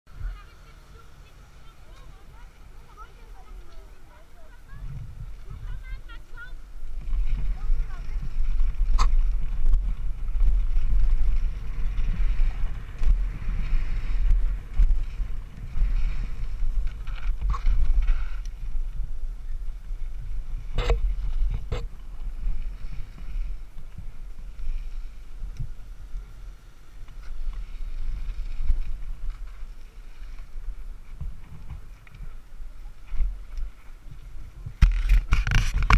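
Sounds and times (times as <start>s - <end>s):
wind and ride rumble: 0.1s - 35.9s.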